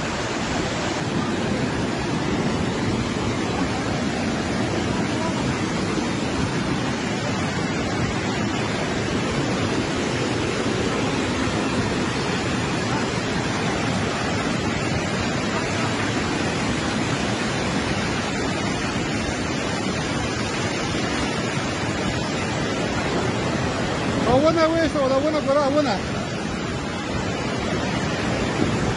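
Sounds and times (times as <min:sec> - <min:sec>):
torrent of water rushing: 0:00.0 - 0:28.9.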